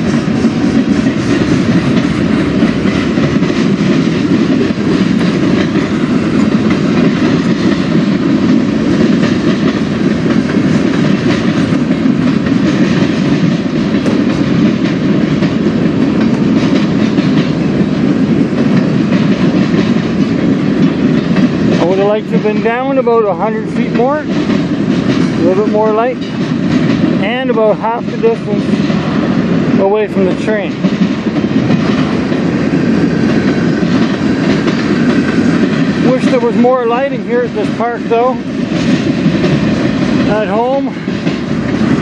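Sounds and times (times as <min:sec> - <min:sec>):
freight train rumbling past: 0:00.0 - 0:42.0
wheels clicking over rail joints: 0:00.0 - 0:42.0.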